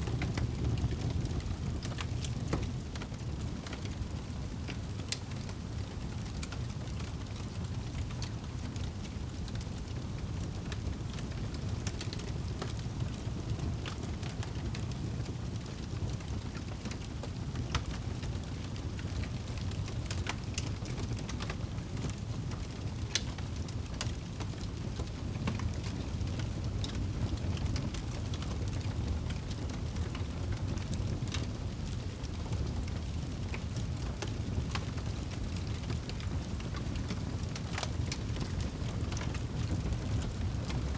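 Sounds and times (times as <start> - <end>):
fire crackling in fireplace: 0.0 - 40.9.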